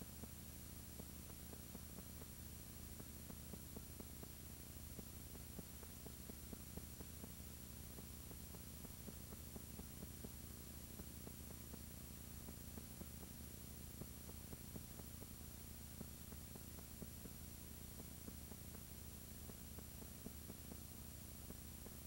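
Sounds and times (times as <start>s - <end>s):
faint electrical hum with hiss: 0.0s - 22.0s.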